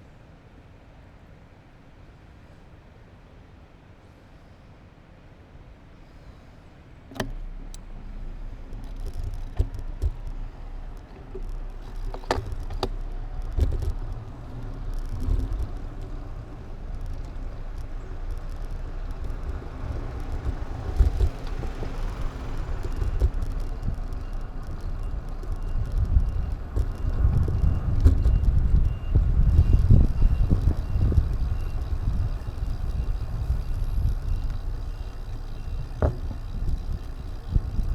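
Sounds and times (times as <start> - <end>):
rumble of wind and road: 5.4 - 37.9.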